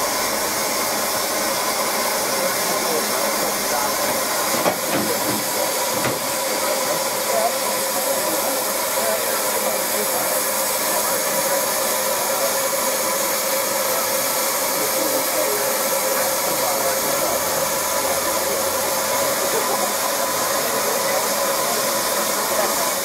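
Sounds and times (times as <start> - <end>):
steam locomotive letting off steam: 0.0 - 23.0.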